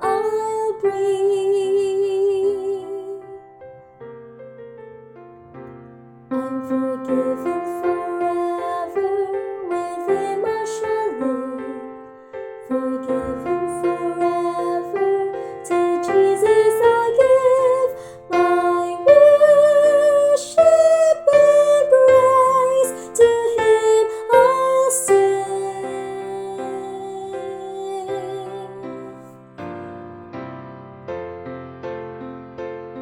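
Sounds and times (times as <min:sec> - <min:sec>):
piano accompaniment: 0:00.0 - 0:33.0.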